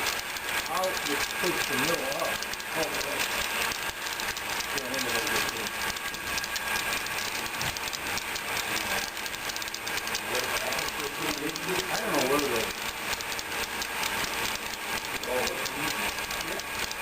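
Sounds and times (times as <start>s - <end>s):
model train rolling hiss: 0.0s - 17.0s
wheels clicking over track: 0.0s - 17.0s.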